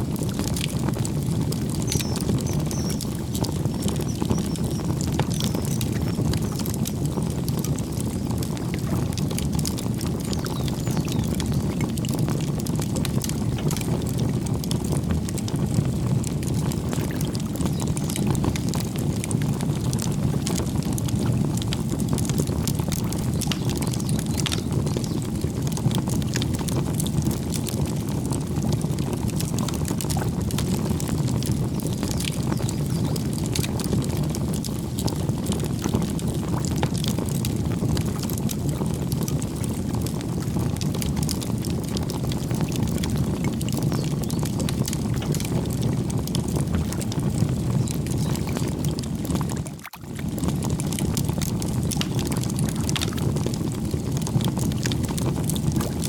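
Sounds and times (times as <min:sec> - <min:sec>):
campfire flames rumbling: 0:00.0 - 0:56.0
fire crackles and pops: 0:00.0 - 0:56.0.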